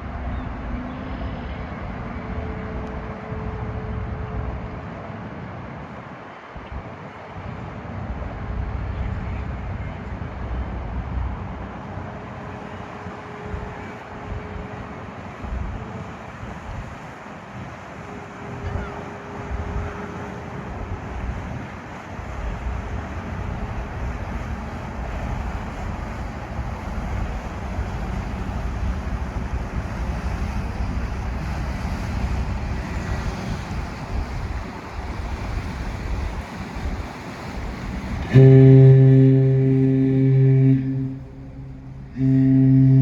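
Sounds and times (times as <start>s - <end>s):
water noise: 0.0s - 43.0s
ship's horn blast: 0.1s - 4.8s, 11.8s - 43.0s
wind buffeting microphone: 1.4s - 43.0s.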